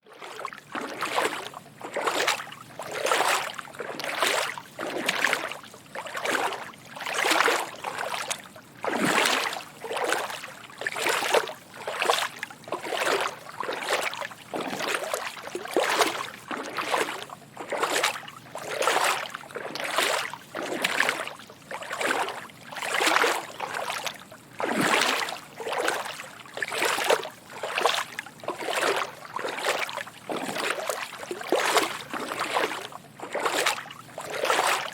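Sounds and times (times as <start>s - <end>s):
footsteps wading through water: 0.0s - 34.9s.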